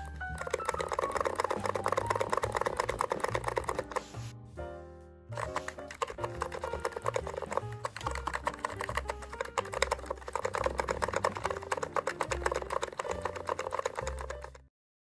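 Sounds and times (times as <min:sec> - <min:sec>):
fast keyboard typing: 0:00.0 - 0:04.3, 0:05.4 - 0:14.7.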